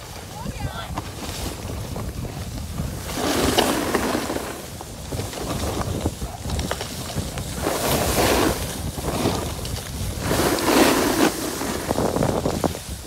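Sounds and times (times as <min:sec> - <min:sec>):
skis scraping over snow: 0:00.0 - 0:13.0
wind on microphone: 0:00.0 - 0:13.0.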